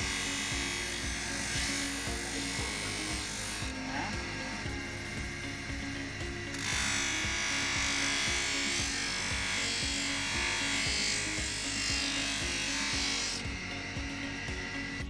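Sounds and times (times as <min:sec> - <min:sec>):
grinding wheel on metal: 0:00.0 - 0:15.0.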